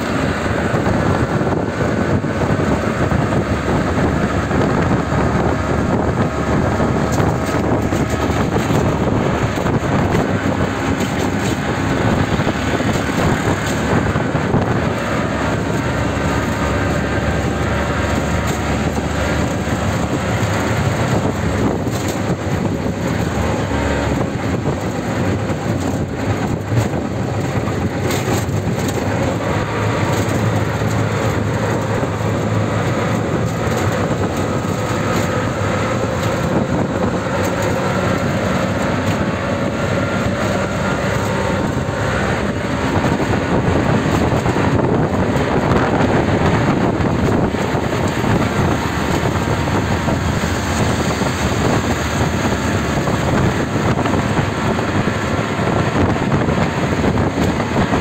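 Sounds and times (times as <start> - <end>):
road and wind noise: 0.0 - 58.0.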